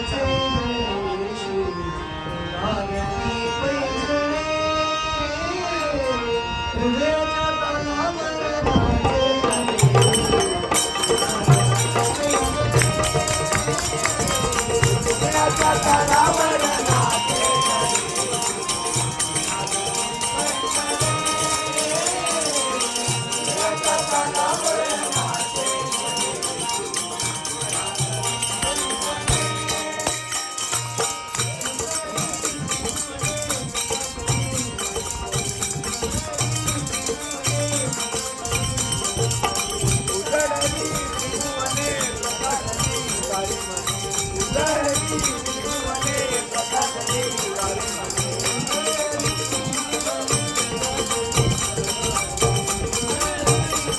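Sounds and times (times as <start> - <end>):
harmonium chords: 0.0 - 53.9
person singing: 0.0 - 53.9
small cymbals jingling: 9.0 - 53.9.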